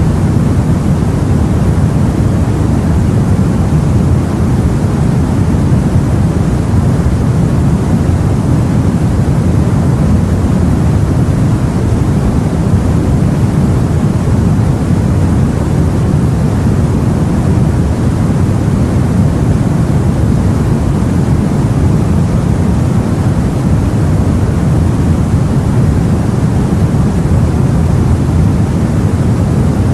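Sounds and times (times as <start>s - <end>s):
sea and wind rumbling: 0.0s - 29.9s.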